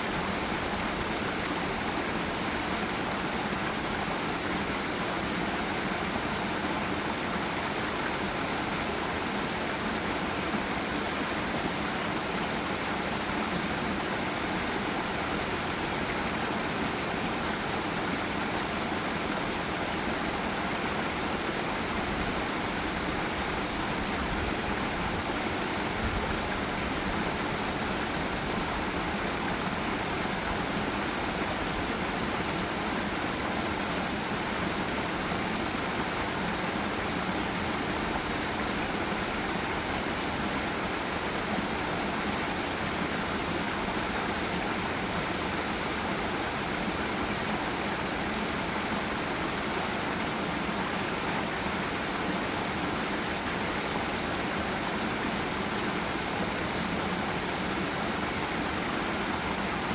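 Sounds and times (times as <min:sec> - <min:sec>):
waterfall and river rushing: 0:00.0 - 0:59.9.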